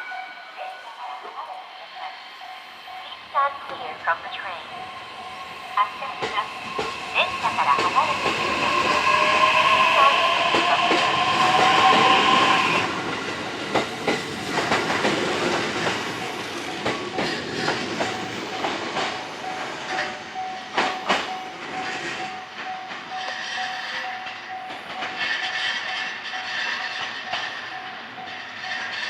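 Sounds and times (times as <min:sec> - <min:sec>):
train wheels clacking: 0:01.0 - 0:29.0.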